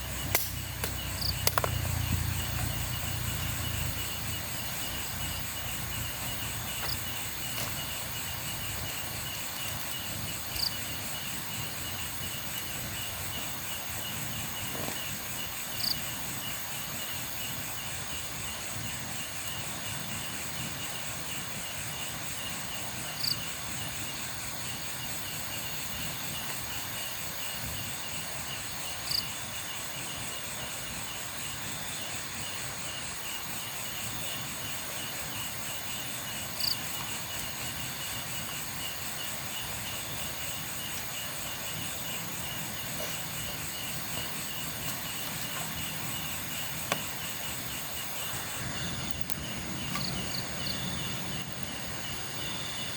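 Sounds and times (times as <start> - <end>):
crickets trilling: 0.0 - 52.9.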